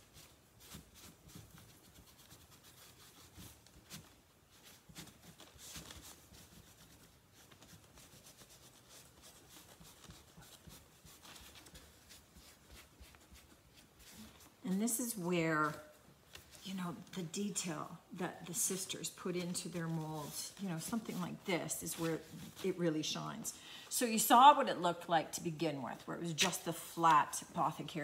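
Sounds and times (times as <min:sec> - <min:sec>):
cloth swishing over panel: 0:00.0 - 0:23.5.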